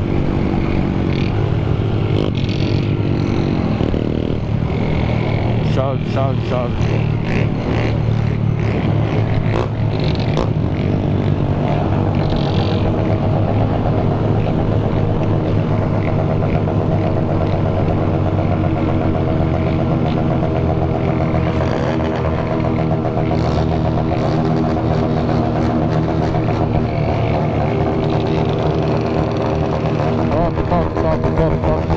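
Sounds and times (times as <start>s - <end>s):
motorcycle engines running: 0.0s - 31.9s.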